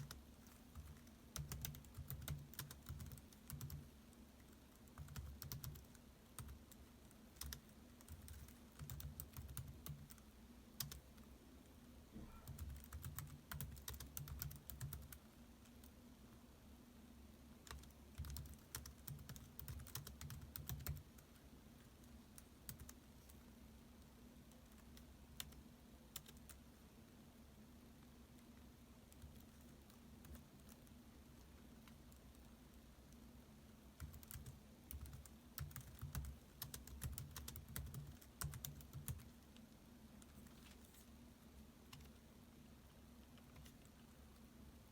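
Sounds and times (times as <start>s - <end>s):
laptop keyboard typing: 0.0s - 11.3s, 12.3s - 16.0s, 17.6s - 26.7s, 28.3s - 33.3s, 33.9s - 40.6s, 41.8s - 42.3s, 43.2s - 44.5s
faint steady low hum: 0.0s - 44.9s.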